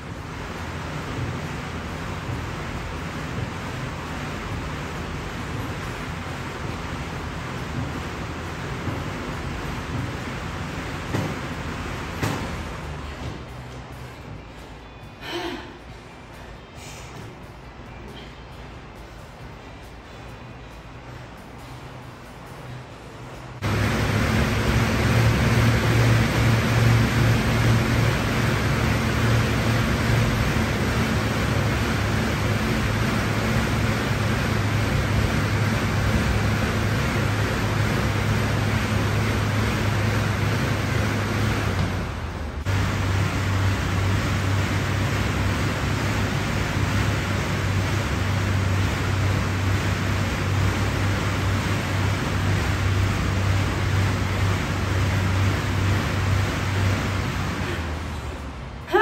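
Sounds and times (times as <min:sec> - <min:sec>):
air bike fan whooshing: 0:00.0 - 0:59.0
low hum: 0:00.0 - 0:59.0.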